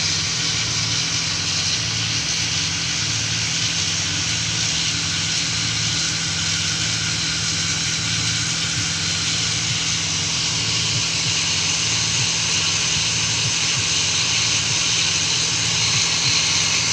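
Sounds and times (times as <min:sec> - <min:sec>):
cotton candy machine motor humming: 0:00.0 - 0:16.9.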